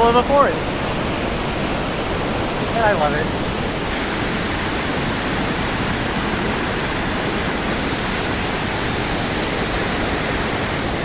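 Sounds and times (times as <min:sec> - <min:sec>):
creek rapids rushing: 0:00.0 - 0:11.0.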